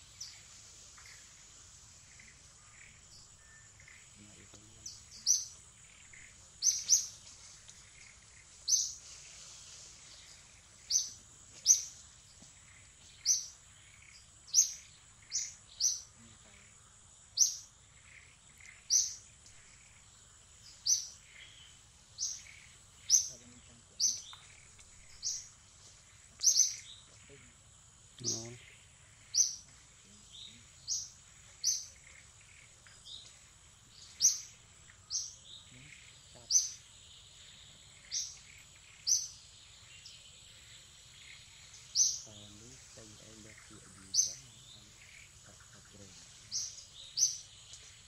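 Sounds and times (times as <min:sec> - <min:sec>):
bird chirping: 0:00.0 - 0:48.0
high insect drone: 0:00.0 - 0:48.0.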